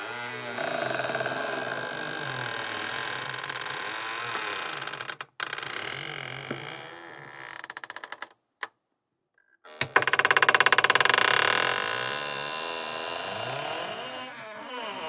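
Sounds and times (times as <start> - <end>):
wooden door creaking on hinges: 0.0 - 8.7, 9.6 - 15.0.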